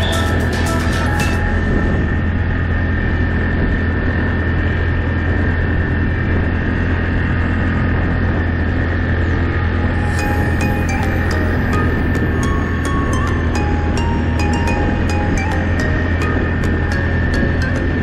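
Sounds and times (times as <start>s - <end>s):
atv engine running: 0.0s - 10.0s, 13.0s - 18.0s.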